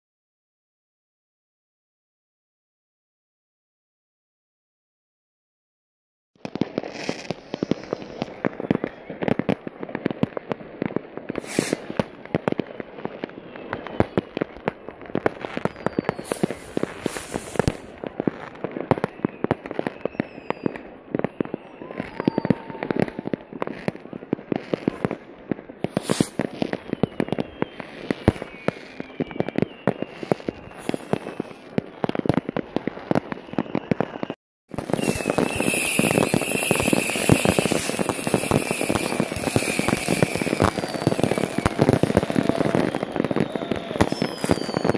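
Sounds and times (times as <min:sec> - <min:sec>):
firecrackers crackling: 0:06.4 - 0:44.9
whistling rockets: 0:06.4 - 0:44.9.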